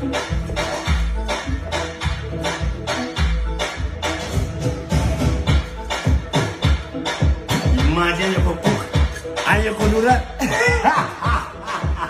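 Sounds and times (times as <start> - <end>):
music with deep bass: 0.0 - 12.0.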